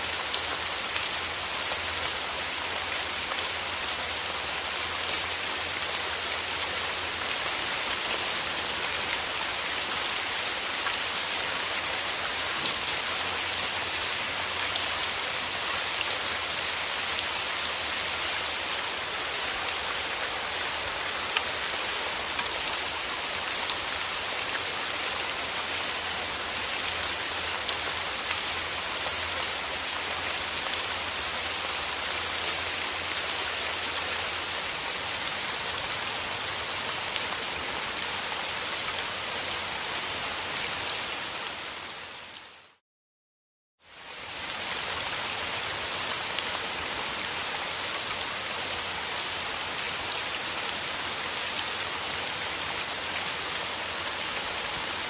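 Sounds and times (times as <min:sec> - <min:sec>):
steady rain pattering: 0:00.0 - 0:42.8, 0:43.8 - 0:55.0.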